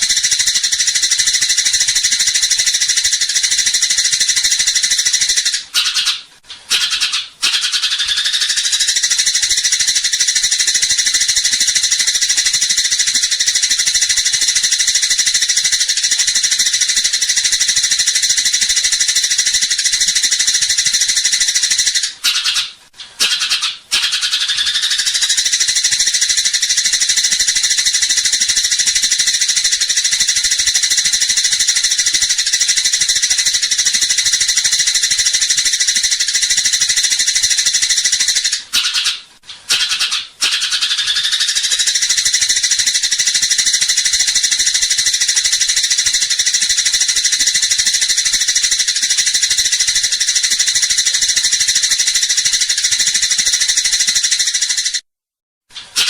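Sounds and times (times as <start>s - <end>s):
sparrows chattering: 0.0s - 55.0s.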